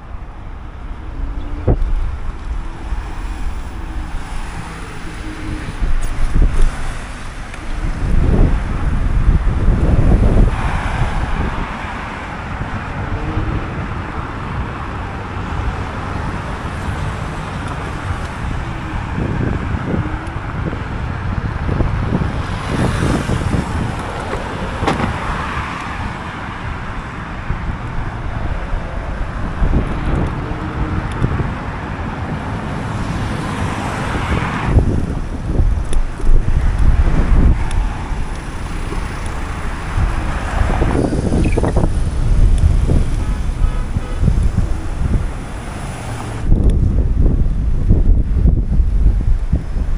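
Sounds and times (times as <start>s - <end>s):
tyre and road noise: 0.0s - 49.9s
wind buffeting microphone: 0.0s - 49.9s.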